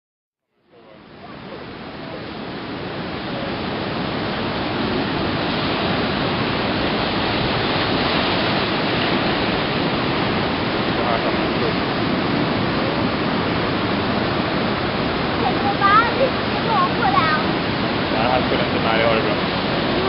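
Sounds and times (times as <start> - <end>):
surf crashing over rocks: 0.8 - 20.0.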